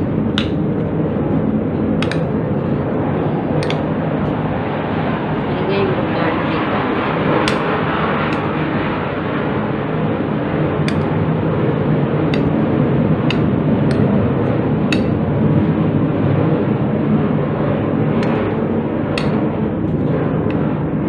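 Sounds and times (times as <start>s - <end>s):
steady rushing noise with hum: 0.0s - 21.0s.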